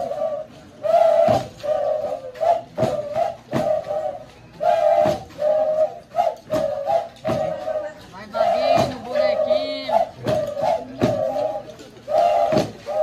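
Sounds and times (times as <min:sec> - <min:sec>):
flutes playing a repeating phrase: 0:00.0 - 0:13.0
low rhythmic thuds: 0:00.0 - 0:13.0.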